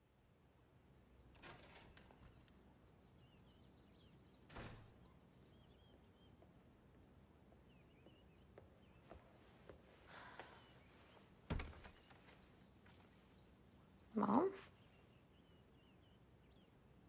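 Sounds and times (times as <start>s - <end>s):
small birds chirping: 1.8s - 17.0s.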